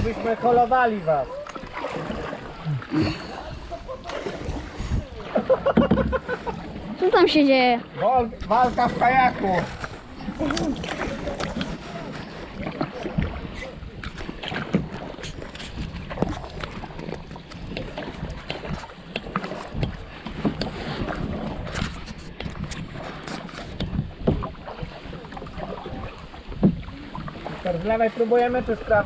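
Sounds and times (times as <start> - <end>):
paddle strokes in water: 0.0 - 29.0.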